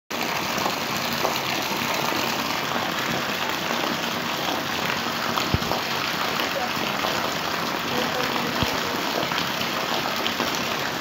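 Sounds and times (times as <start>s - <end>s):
rushing water hiss: 0.1s - 11.0s.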